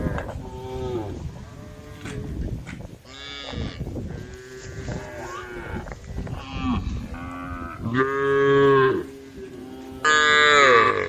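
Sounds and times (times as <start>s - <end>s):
cows mooing: 0.0s - 2.4s, 3.0s - 11.0s.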